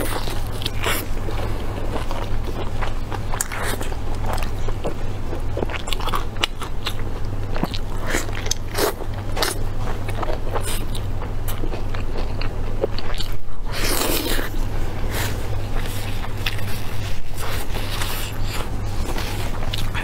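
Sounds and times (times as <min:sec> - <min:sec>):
chewing meat: 0:00.0 - 0:20.0
low hum: 0:00.0 - 0:20.0.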